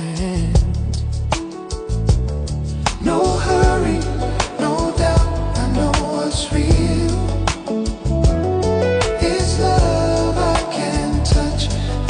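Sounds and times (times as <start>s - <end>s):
person singing: 0.0s - 0.9s, 2.8s - 12.0s
acoustic guitar love song: 0.0s - 12.0s
bass line: 0.2s - 12.0s.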